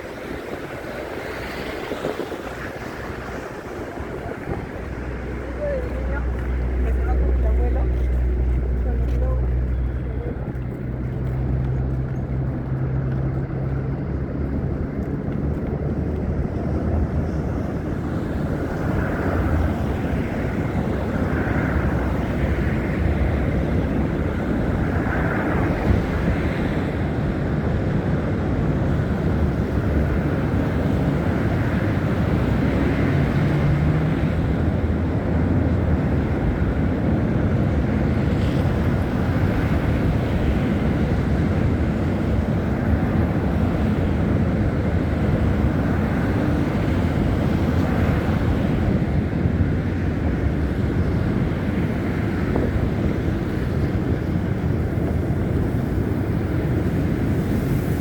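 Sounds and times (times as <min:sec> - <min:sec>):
city traffic rumble: 0:00.0 - 0:58.0
wind buffeting microphone: 0:00.0 - 0:58.0.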